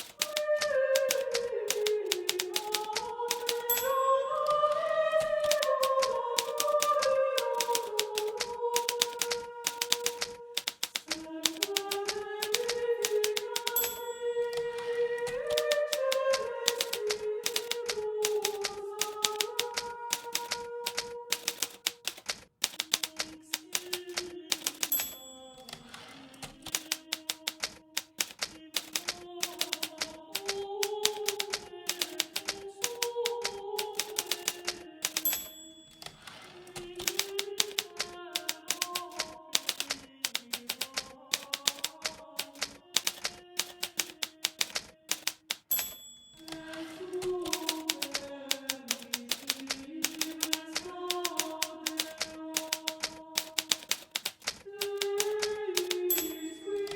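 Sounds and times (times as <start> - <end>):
typewriter keystrokes: 0.0 - 56.9.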